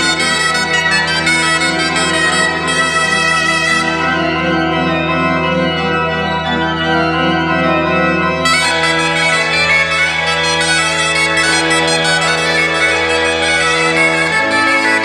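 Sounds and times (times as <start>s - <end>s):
bombarde reedy melody: 0.0s - 15.0s
pipe organ playing: 0.0s - 15.0s.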